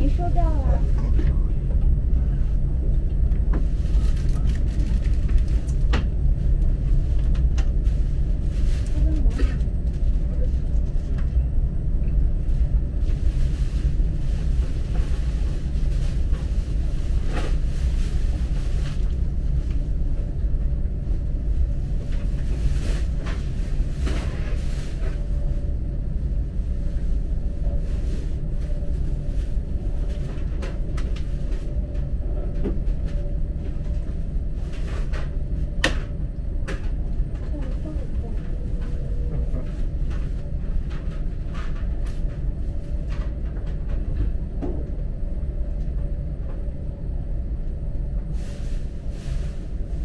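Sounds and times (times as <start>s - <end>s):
faint steady hum: 0.0s - 50.0s
train rumble inside carriage: 0.0s - 50.0s.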